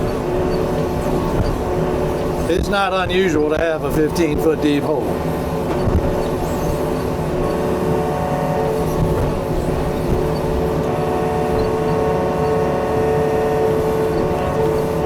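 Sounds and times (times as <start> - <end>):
excavator diesel engine running: 0.0 - 15.0
hydraulic whine: 0.0 - 15.0.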